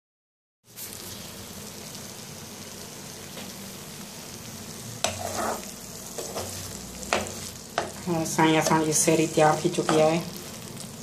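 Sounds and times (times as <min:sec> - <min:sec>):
potatoes sizzling in hot oil: 0:00.6 - 0:11.0.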